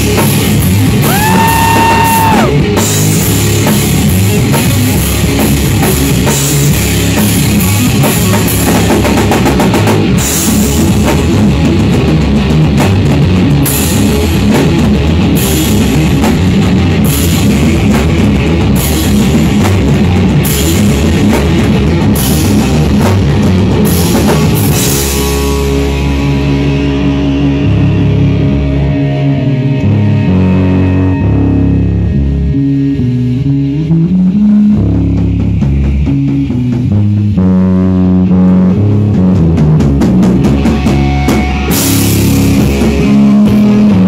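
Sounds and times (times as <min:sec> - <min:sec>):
pounding drum kit: 0:00.0 - 0:29.3, 0:33.6 - 0:44.0
bass guitar: 0:00.0 - 0:44.0
distorted electric guitar: 0:00.0 - 0:44.0.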